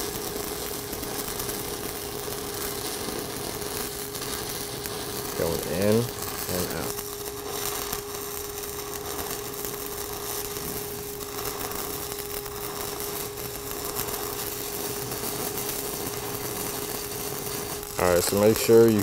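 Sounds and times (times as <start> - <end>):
steady hum: 0.0 - 19.0
welding arc crackling: 0.0 - 19.0.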